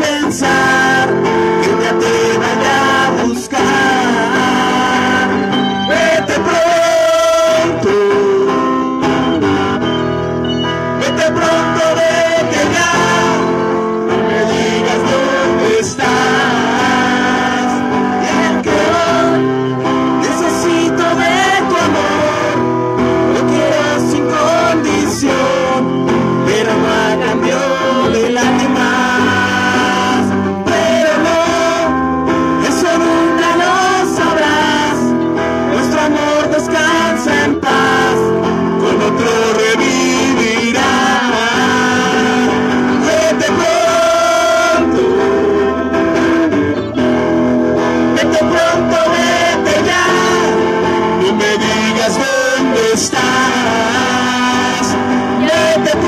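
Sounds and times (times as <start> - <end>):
man singing into microphone: 0.0 - 9.9, 10.5 - 46.9, 47.9 - 56.0
electric guitars: 0.0 - 56.0.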